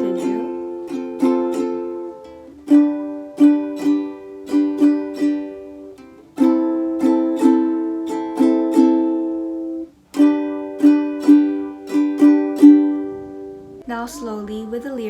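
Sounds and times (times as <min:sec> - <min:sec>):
ukulele strumming: 0:00.0 - 0:15.0.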